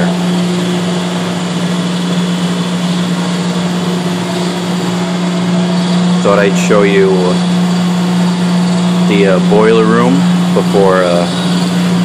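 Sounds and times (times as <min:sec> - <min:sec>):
boilers droning: 0:00.0 - 0:12.0
low hum: 0:00.0 - 0:12.0.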